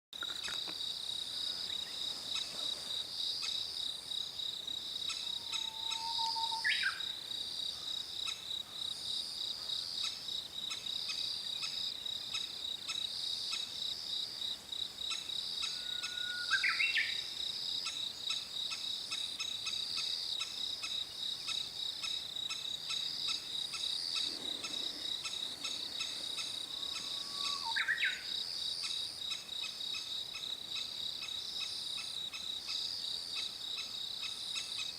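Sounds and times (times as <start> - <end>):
insects droning: 0.2 - 34.9.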